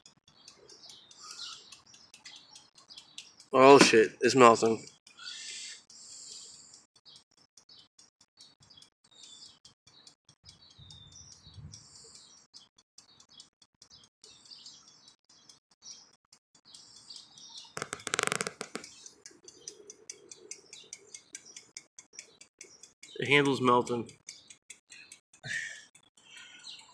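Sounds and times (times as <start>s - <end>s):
birds chirping faintly: 0.0s - 26.9s.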